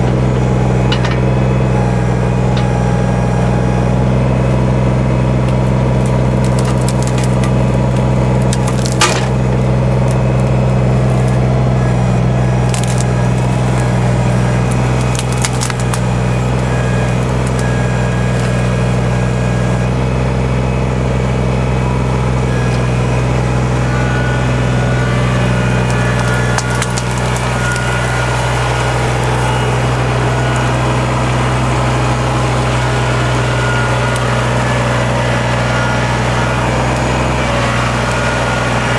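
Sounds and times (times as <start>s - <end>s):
tractor engine running: 0.0s - 38.9s
wood cracking and splintering: 0.0s - 38.9s.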